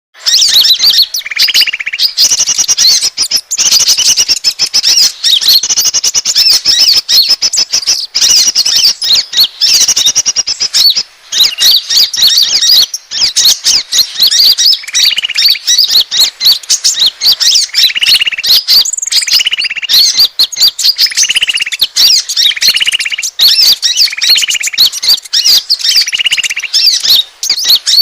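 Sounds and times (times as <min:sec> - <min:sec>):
buzzy bird trill: 0:00.2 - 0:28.0
songbird chirps and squeaks: 0:00.2 - 0:28.0.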